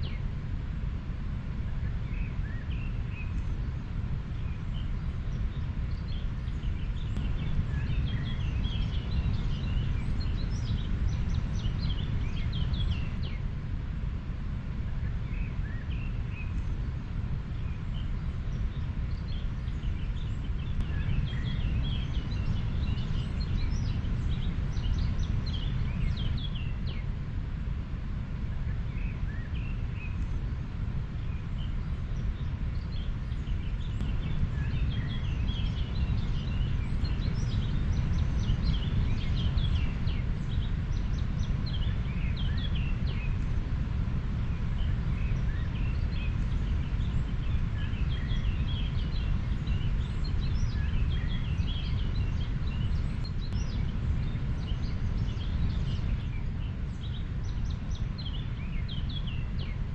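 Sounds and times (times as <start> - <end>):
small birds chirping: 1.6 - 13.5, 14.7 - 59.9.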